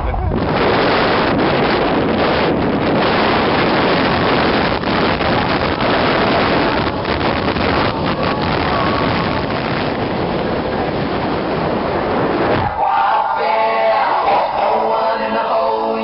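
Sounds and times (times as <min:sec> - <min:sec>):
wind buffeting microphone: 0:00.0 - 0:13.0
wind and road noise from car: 0:00.0 - 0:13.1.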